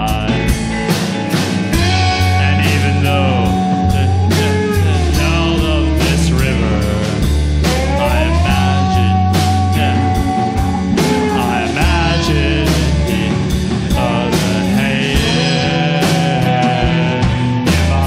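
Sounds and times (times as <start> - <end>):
lead melody bent in pitch: 0.0 - 18.0
steady drum beat: 0.0 - 18.0
sustained bass: 0.0 - 18.0.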